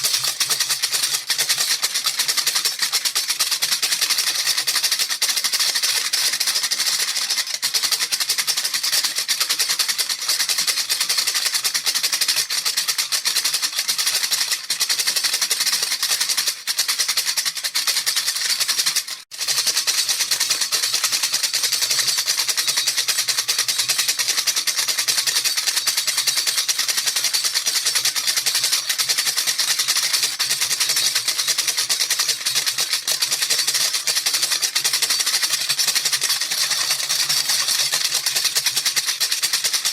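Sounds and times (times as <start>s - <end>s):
rattle shaken rapidly: 0.0s - 39.9s.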